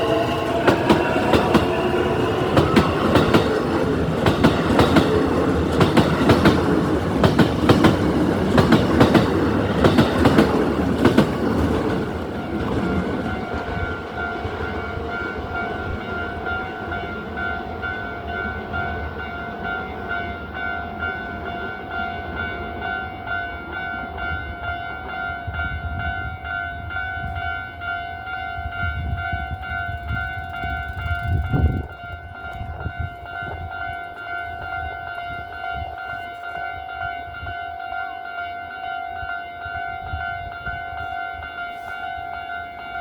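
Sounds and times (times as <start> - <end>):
train rumbling: 0.0 - 37.7
level crossing bell clanging: 0.0 - 43.0.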